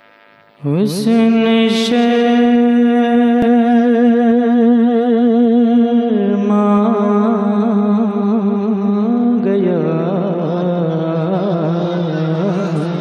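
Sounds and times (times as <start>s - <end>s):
man singing with vibrato: 0.6s - 13.0s.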